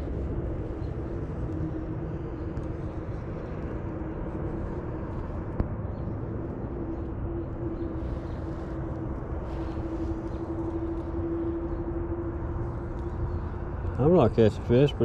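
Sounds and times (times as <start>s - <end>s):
distant engine drone: 0.0s - 15.0s
wind rumble on microphone: 0.0s - 15.0s.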